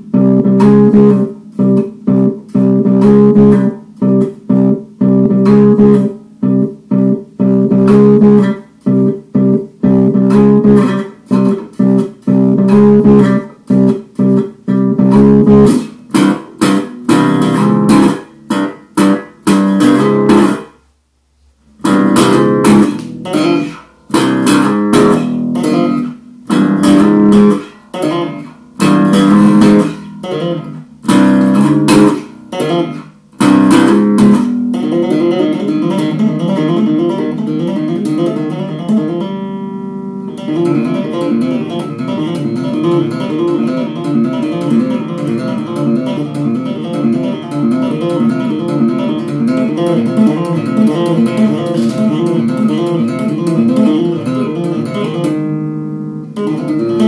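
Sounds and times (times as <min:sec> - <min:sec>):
electric bass playing: 0:00.0 - 0:57.0.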